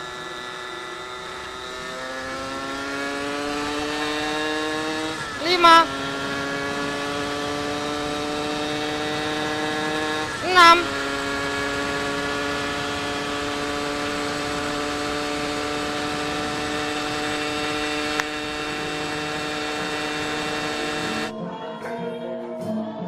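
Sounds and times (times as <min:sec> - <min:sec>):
motorcycle engine at high revs: 0:00.0 - 0:21.4.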